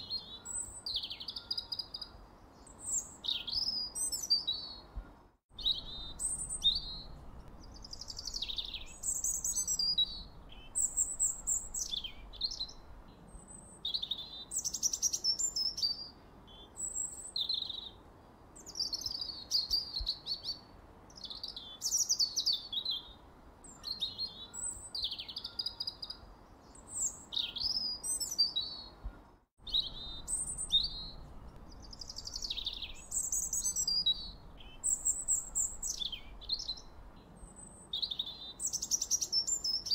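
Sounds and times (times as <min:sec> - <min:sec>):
songbird chirping and warbling: 0:00.0 - 0:18.0, 0:18.6 - 0:39.9
faint steady hiss: 0:00.0 - 0:39.9.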